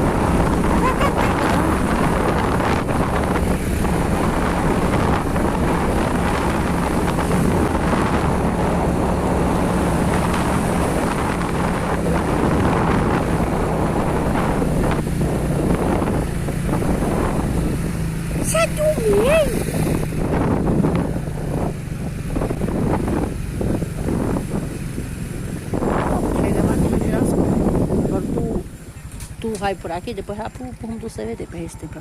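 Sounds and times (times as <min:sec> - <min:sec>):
vehicle engine running: 0:00.0 - 0:32.0
wind buffeting microphone: 0:00.0 - 0:32.0.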